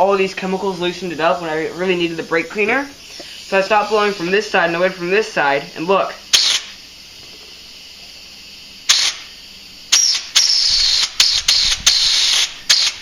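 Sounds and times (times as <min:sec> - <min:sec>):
compressed air blasts hissing: 0:00.0 - 0:13.0.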